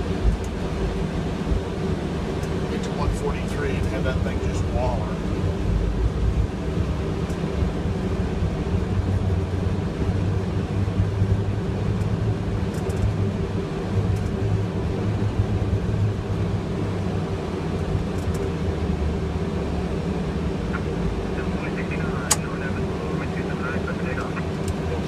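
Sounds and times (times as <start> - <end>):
jet engines rumbling inside aircraft: 0.0 - 25.0.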